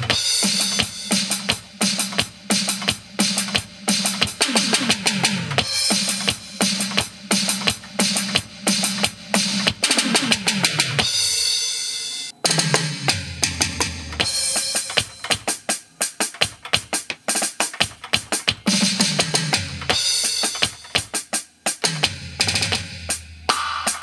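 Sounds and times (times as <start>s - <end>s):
rapid electronic drum hits: 0.0s - 11.7s, 12.4s - 24.0s.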